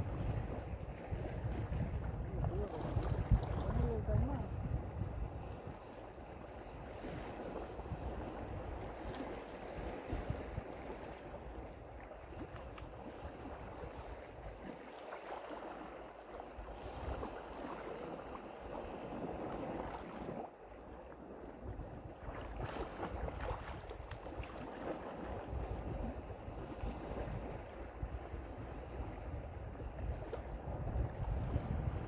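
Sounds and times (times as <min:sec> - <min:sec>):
wind buffeting microphone: 0:00.0 - 0:14.8, 0:15.5 - 0:20.5, 0:21.2 - 0:32.0
small waves lapping on rocks: 0:00.0 - 0:32.0.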